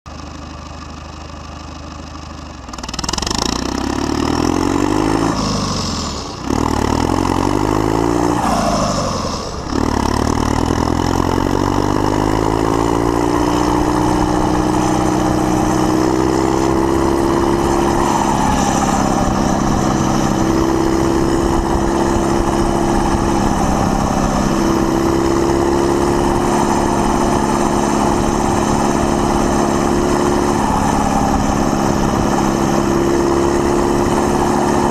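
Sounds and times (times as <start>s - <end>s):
tractor diesel engine revving: 2.1s - 34.9s.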